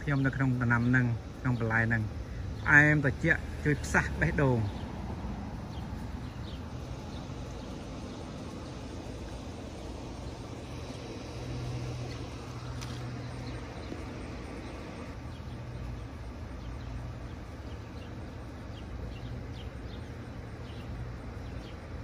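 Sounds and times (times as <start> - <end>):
low hum of distant traffic: 0.0 - 22.0
small birds chirping: 0.0 - 22.0.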